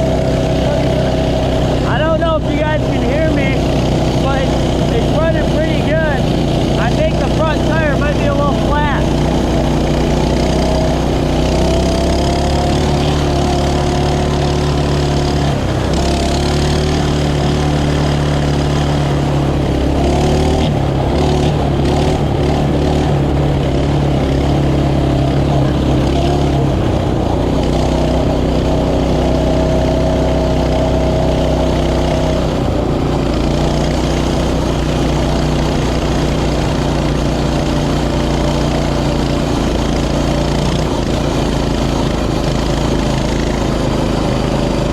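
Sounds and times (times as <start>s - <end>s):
mini bike engine running: 0.0s - 44.9s.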